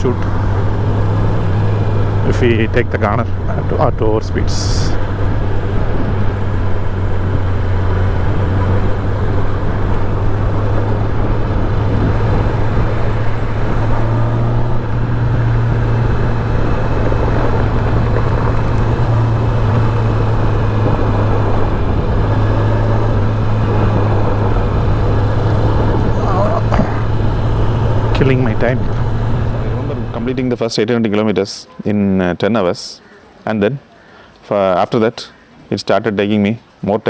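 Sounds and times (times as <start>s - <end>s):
wind rush: 0.0s - 30.6s
motorcycle engine cruising: 0.0s - 31.2s.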